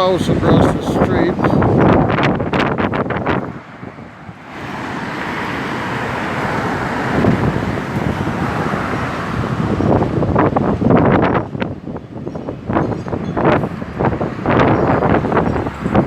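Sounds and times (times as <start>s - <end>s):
strong wind rushing: 0.0s - 16.0s.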